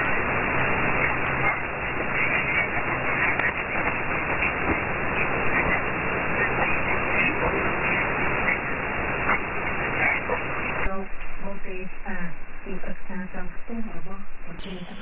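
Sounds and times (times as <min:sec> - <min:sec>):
radio static hiss: 0:00.0 - 0:15.0
weak radio broadcast: 0:00.0 - 0:15.0.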